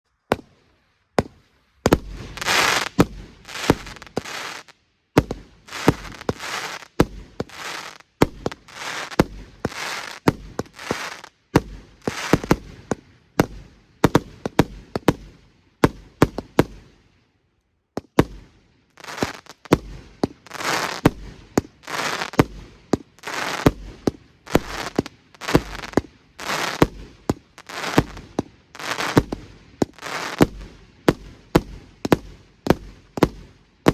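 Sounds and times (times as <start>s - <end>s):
fireworks shots cracking: 1.2s - 17.1s, 18.0s - 33.9s.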